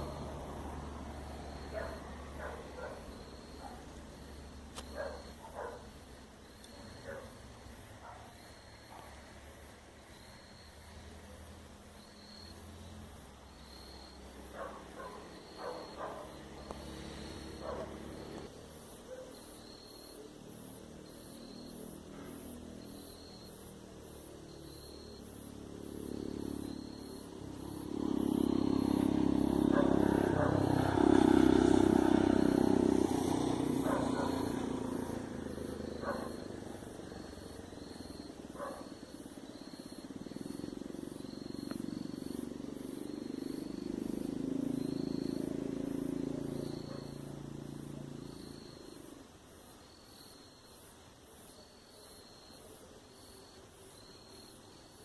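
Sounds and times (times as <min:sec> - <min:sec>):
vehicles passing on road: 0:00.0 - 0:50.6.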